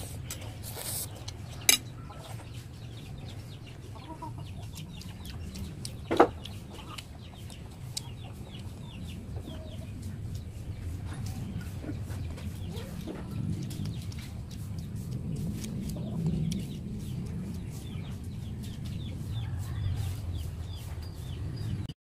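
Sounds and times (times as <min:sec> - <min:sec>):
chickens clucking: 0:00.3 - 0:21.8.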